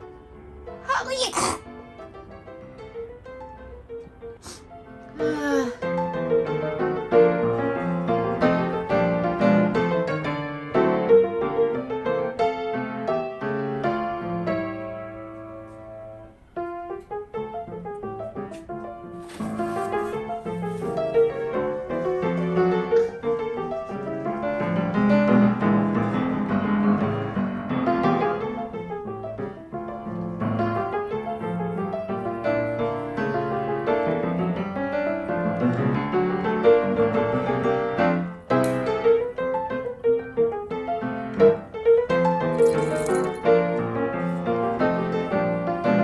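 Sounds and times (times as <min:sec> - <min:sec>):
background piano music: 0:00.0 - 0:46.0.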